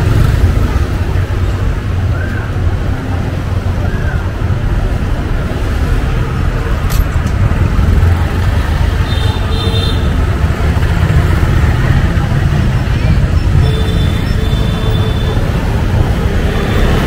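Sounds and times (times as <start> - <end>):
motorbikes and rickshaws passing: 0.0 - 17.0.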